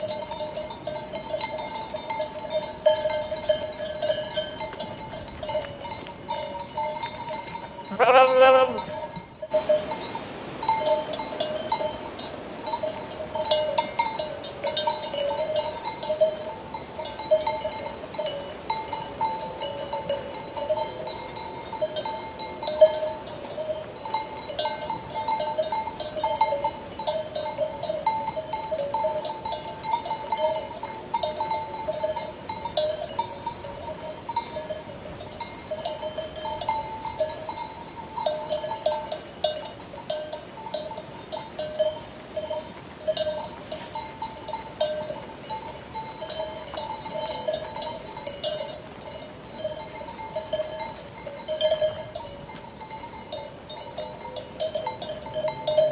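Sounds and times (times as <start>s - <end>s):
sheep bells clanking: 0.0s - 55.9s.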